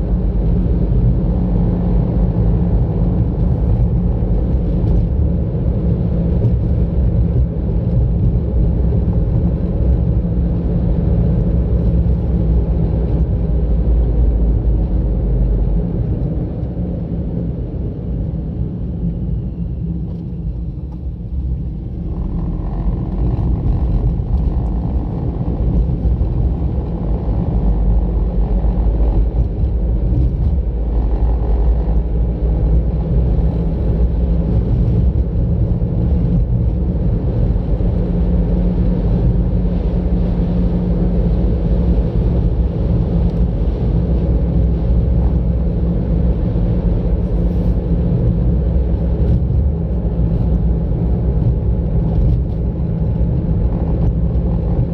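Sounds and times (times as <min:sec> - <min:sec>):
car interior road and engine rumble: 0:00.0 - 0:54.9.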